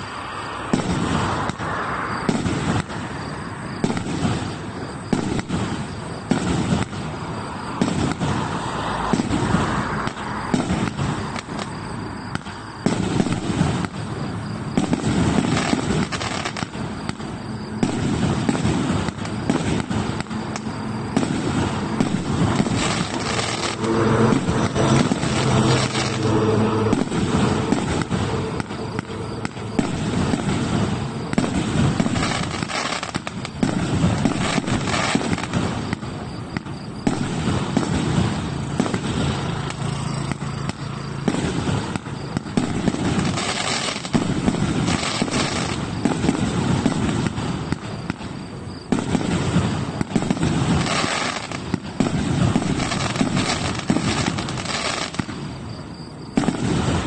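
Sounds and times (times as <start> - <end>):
firework cake firing: 0.0 - 57.0.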